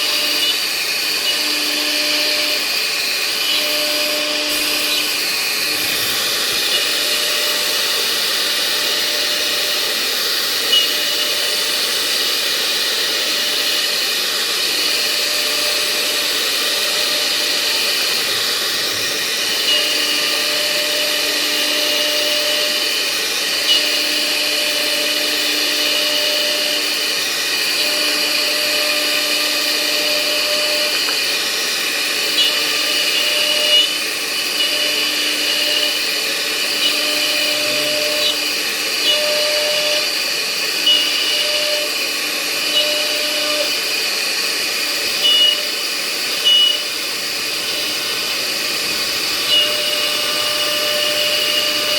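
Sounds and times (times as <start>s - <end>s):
cnc router motor hum: 0.0s - 51.9s
held machine tones: 0.0s - 51.9s.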